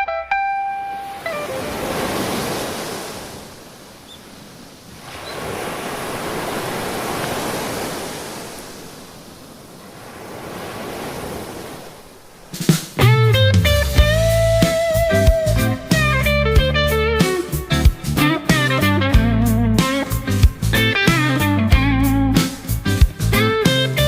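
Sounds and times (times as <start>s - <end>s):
ocean waves breaking: 0.7s - 16.4s, 17.0s - 23.8s.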